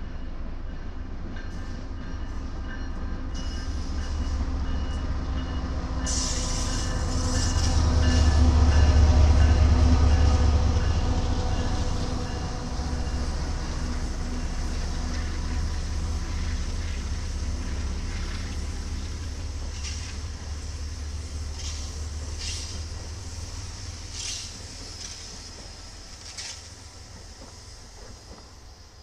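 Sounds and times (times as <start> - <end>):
diesel locomotive engine rumble: 0.0 - 29.0
train wheels rolling on rails: 0.0 - 29.0.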